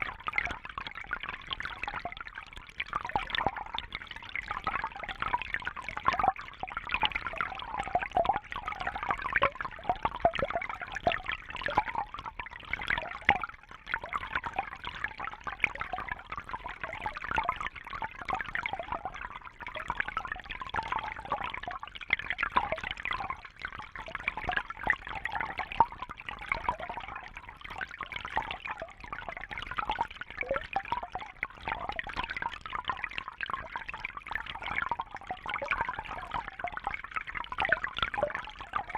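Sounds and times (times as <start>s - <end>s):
brook water trickling over stones: 0.0s - 38.9s.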